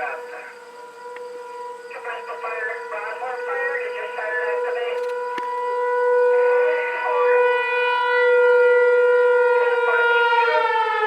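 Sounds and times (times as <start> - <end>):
fire warning siren tone: 0.0 - 11.0.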